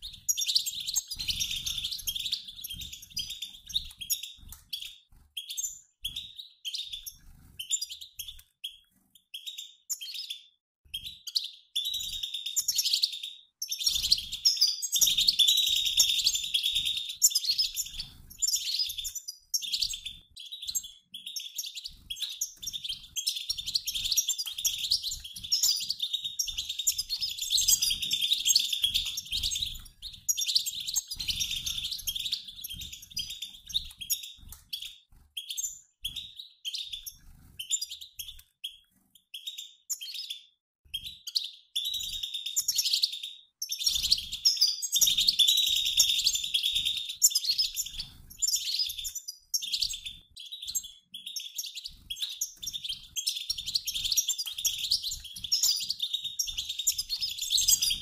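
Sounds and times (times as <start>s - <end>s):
goldfinches twittering: 0.0s - 8.4s, 11.3s - 38.4s, 41.3s - 58.0s.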